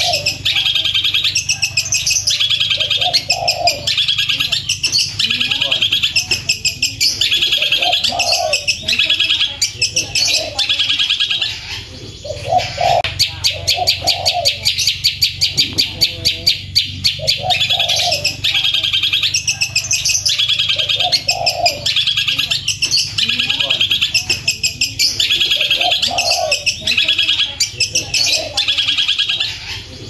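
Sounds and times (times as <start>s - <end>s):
shrike singing rapid repeated notes: 0.0s - 30.0s.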